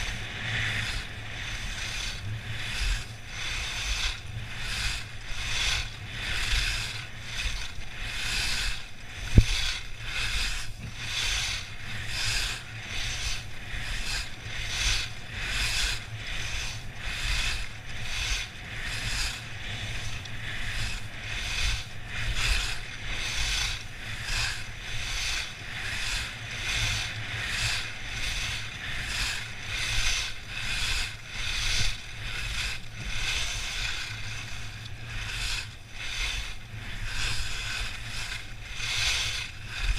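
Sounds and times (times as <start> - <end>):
skis scraping snow: 0.0 - 39.9
wind rumble on microphone: 0.0 - 39.9.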